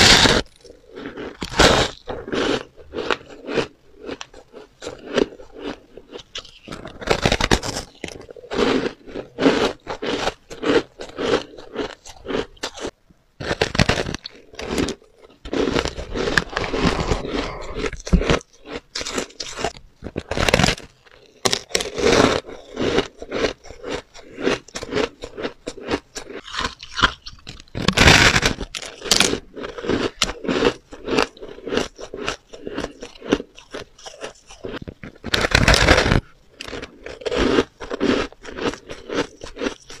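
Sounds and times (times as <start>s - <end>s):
crunching shaved ice: 0.0s - 40.0s.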